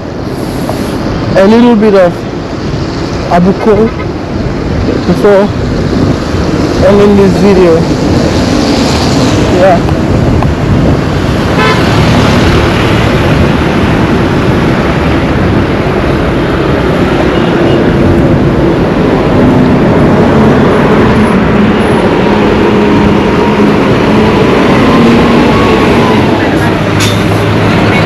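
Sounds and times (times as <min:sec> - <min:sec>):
road vehicle engine hum: 0:00.0 - 0:28.0.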